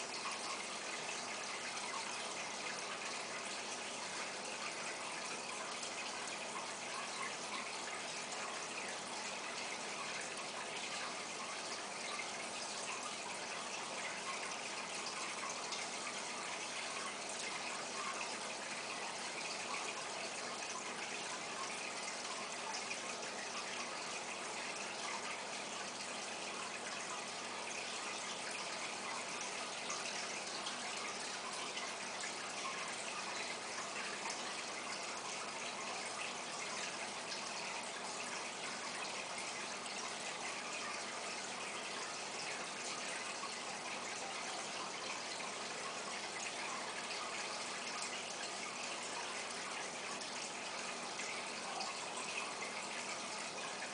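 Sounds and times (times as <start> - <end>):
aquarium filter water rushing: 0.0 - 53.9.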